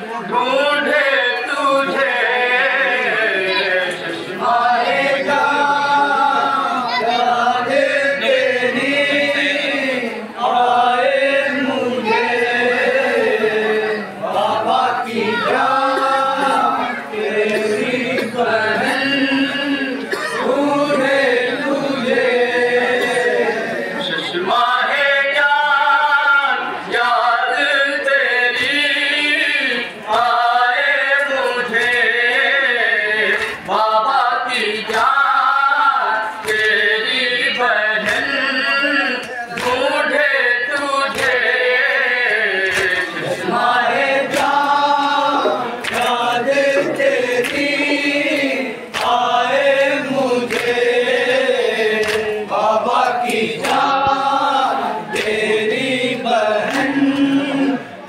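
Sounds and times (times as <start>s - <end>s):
men chanting in unison: 0.0s - 58.0s.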